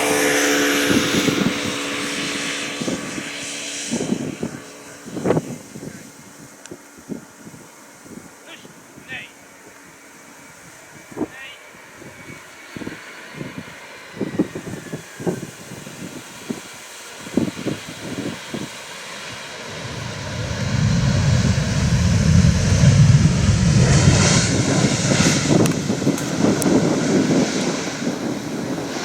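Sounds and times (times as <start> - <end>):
jet airliner engine rumble: 0.0 - 29.0.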